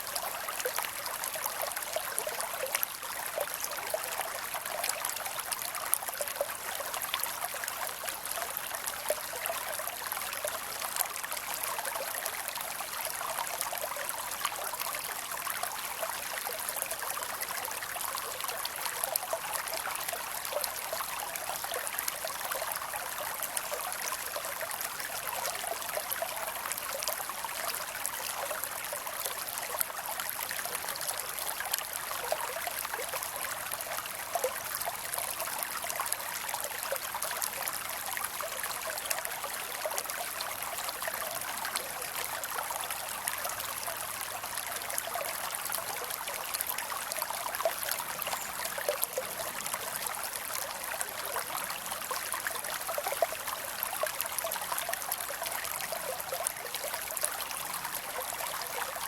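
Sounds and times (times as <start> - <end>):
shallow creek trickling: 0.0 - 59.0.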